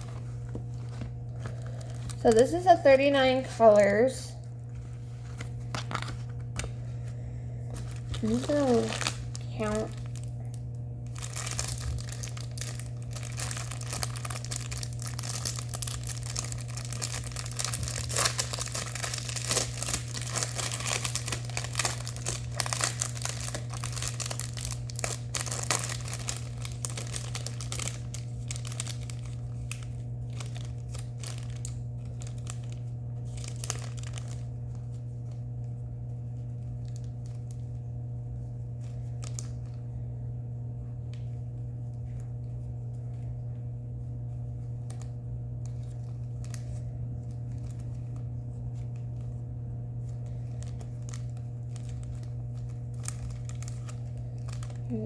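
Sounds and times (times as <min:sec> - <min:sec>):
plastic bags crinkling: 0:00.0 - 0:07.1, 0:07.7 - 0:35.6, 0:36.4 - 0:37.9, 0:38.8 - 0:39.8, 0:44.3 - 0:49.4, 0:50.0 - 0:55.0
steady low hum: 0:00.0 - 0:55.0.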